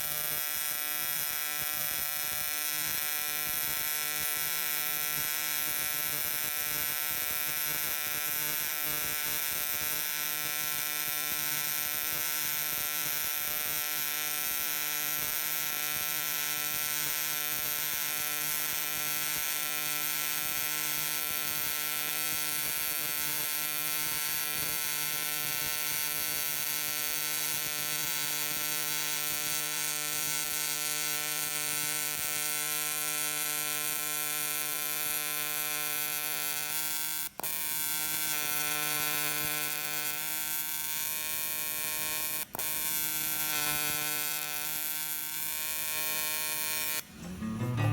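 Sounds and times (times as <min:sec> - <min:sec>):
welding arc buzzing: 0:00.0 - 0:47.2.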